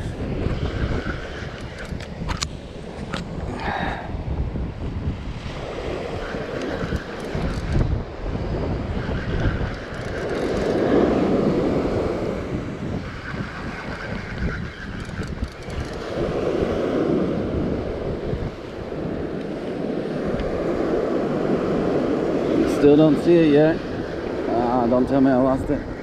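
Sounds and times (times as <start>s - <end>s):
waves washing up: 0.0s - 26.0s
wind buffeting microphone: 0.0s - 26.0s.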